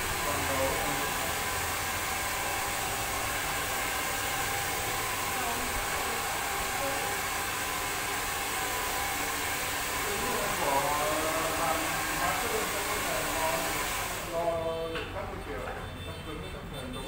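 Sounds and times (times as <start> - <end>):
hair dryer blowing: 0.0 - 14.6.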